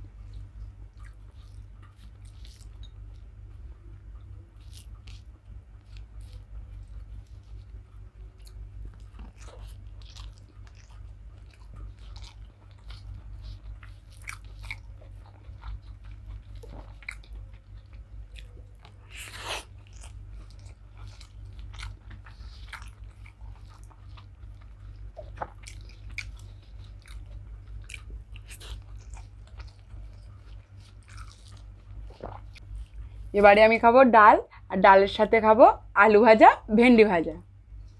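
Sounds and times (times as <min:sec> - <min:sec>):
person chewing food: 0:00.0 - 0:33.3
low hum: 0:00.0 - 0:37.9.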